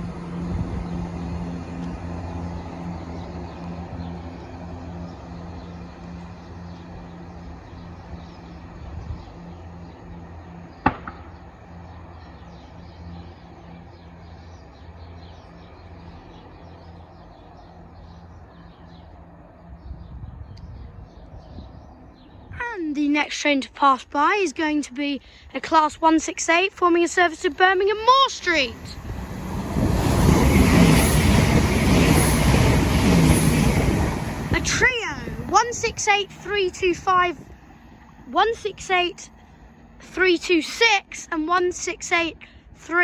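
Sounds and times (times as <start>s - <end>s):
diesel train engine hum: 0.0s - 23.8s, 25.7s - 43.0s.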